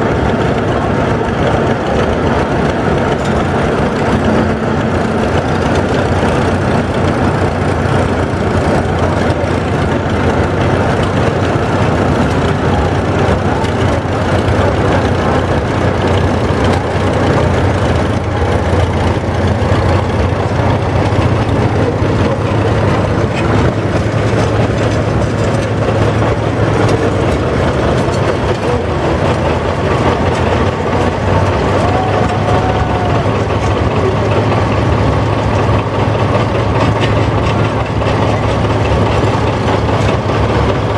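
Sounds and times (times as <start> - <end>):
tractor engines droning: 0.0 - 40.9.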